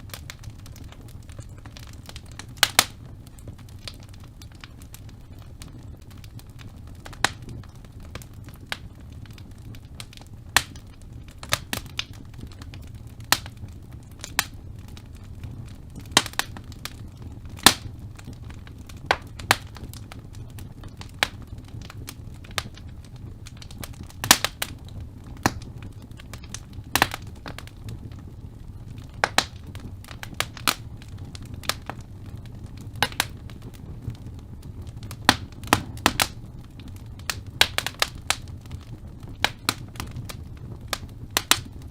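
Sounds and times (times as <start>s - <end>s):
fire crackling and popping: 0.0s - 41.9s
low rumble of flames: 0.0s - 41.9s.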